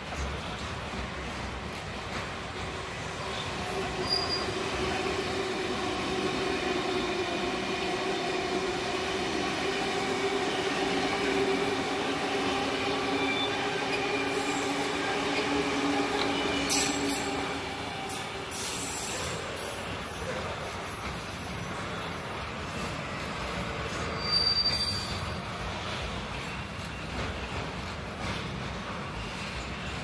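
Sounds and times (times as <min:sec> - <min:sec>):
electric train passing: 0:00.0 - 0:30.0
freight train rolling by: 0:00.0 - 0:30.0.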